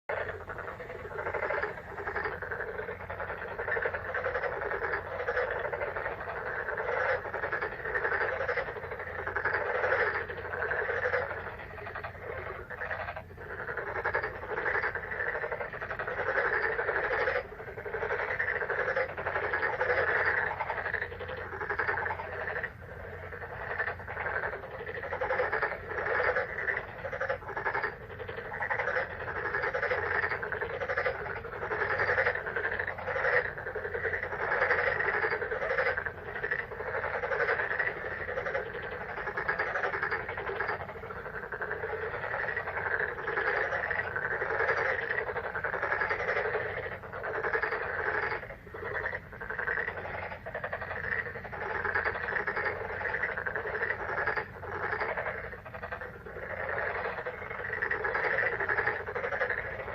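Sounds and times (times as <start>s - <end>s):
frogs croaking: 0.0s - 59.9s
faint low hum: 0.1s - 59.9s.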